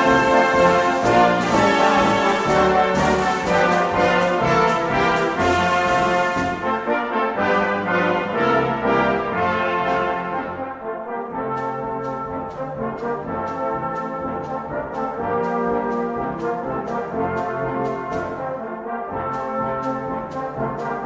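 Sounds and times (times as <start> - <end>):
hymn played on brass instruments: 0.0 - 21.0.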